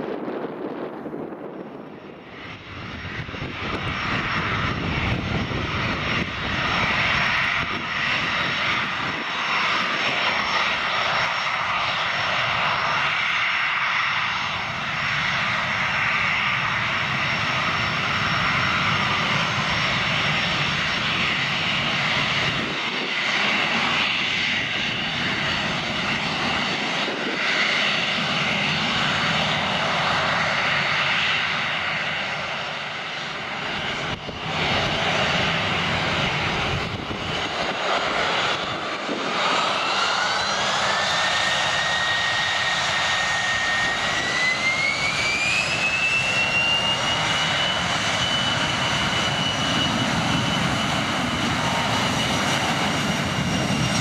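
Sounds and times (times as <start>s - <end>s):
jet engines whining: 0.0s - 54.0s
wind buffeting microphone: 0.0s - 54.0s.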